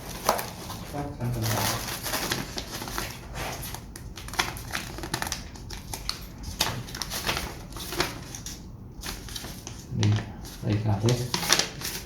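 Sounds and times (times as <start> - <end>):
packaging being opened: 0.0 - 12.0.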